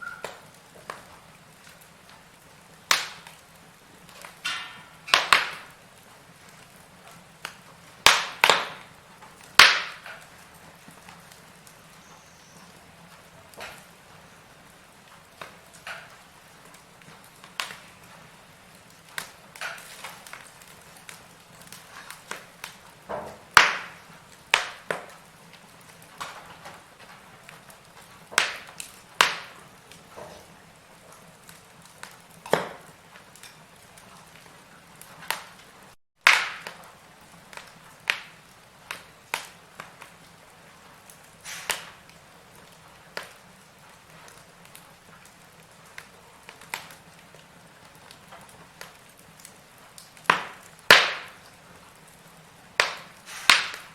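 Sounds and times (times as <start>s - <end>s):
fire hissing: 0.0s - 53.9s
firewood crackling and popping: 0.0s - 53.9s.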